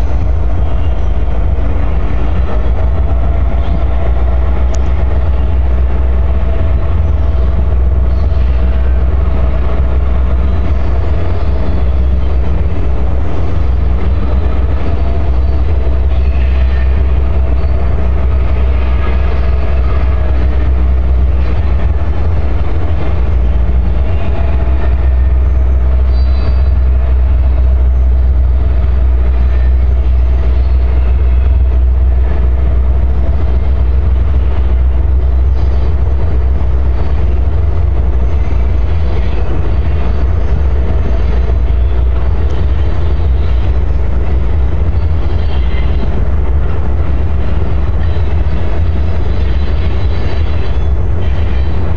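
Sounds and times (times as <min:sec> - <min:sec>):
freight train rumbling: 0:00.0 - 0:51.9
wind buffeting microphone: 0:00.0 - 0:51.9.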